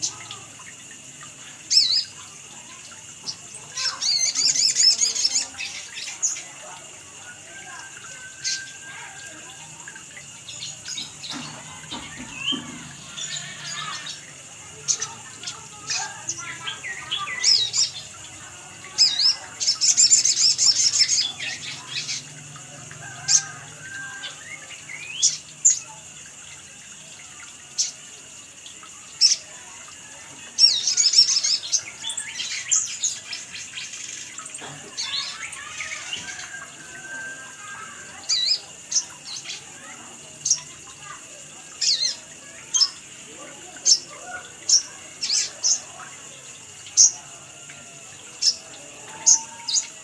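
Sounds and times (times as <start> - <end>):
sunbird chirping and twittering: 0.0 - 50.0.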